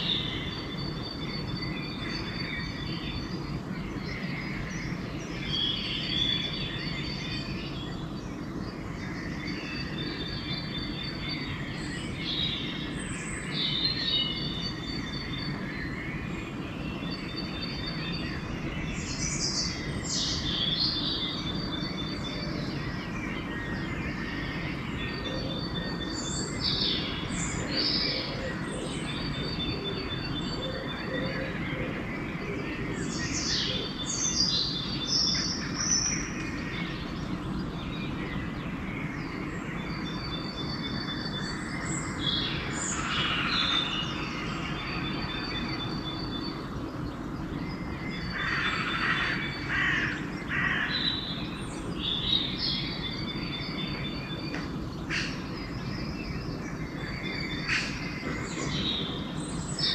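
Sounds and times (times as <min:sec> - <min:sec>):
birds sweeping calls: 0:00.0 - 0:59.9.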